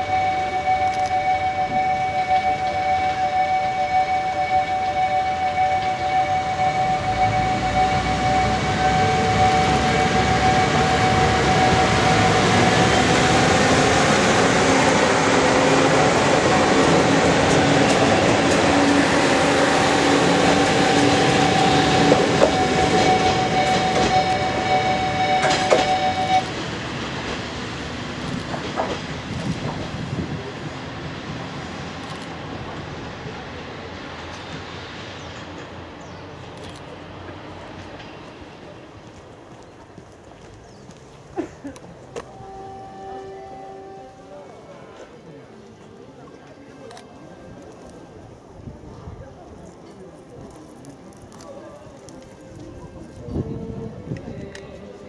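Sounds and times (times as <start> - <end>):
diesel railcar passing: 0.0 - 55.0.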